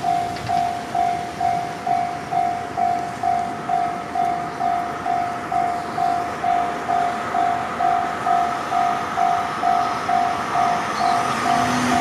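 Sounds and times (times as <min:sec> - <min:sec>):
level crossing bell clanging: 0:00.0 - 0:12.0.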